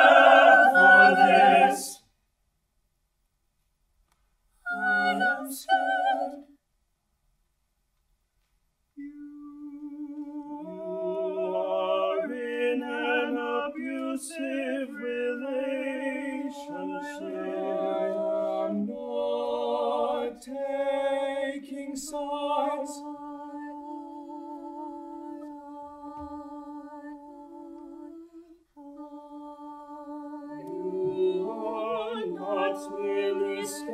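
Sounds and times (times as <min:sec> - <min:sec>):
vocal ensemble singing a cappella: 0:00.0 - 0:02.1, 0:04.6 - 0:06.6, 0:09.0 - 0:33.9.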